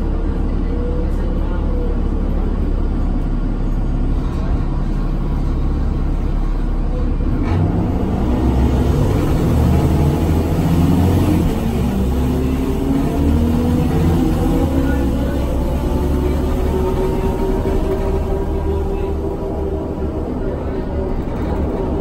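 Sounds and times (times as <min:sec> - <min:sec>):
bus diesel engine accelerating: 0:00.0 - 0:22.0.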